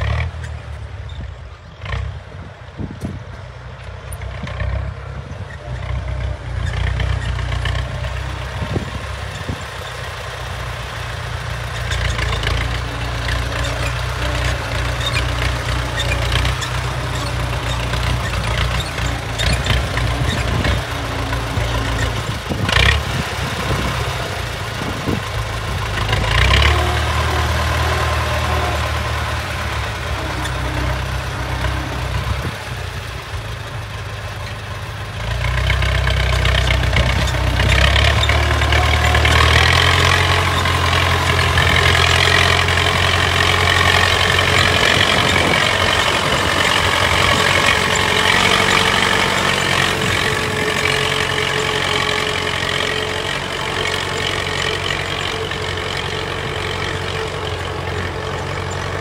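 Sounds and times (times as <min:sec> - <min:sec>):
tractor engine running under load: 0:00.0 - 0:59.0
harrow rattling and clanking: 0:03.0 - 0:59.0.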